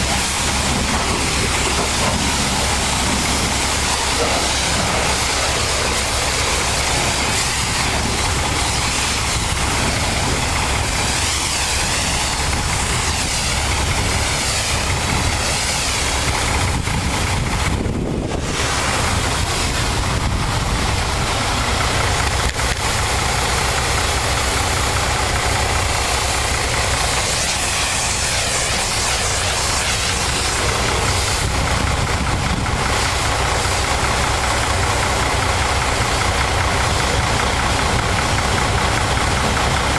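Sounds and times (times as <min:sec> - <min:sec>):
engine hum: 0:00.0 - 0:39.9
pressure washer spray hissing: 0:00.0 - 0:39.9.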